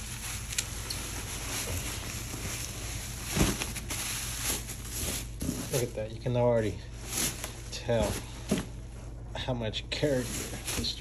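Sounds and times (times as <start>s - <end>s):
rustling packaging: 0.0s - 8.8s, 10.0s - 11.0s.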